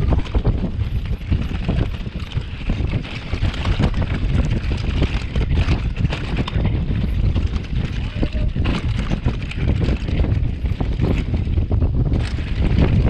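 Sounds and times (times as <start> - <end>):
bike rattling over bumps: 0.0 - 13.0
bike tyres rolling on dirt: 0.0 - 13.0
wind buffeting microphone: 0.0 - 13.0.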